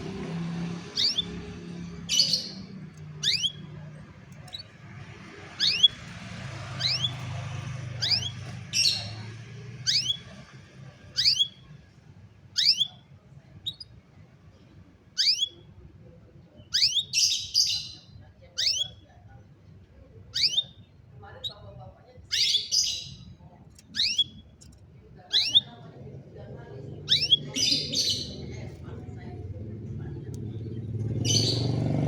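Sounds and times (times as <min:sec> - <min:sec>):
canary chirping: 0:00.0 - 0:32.0.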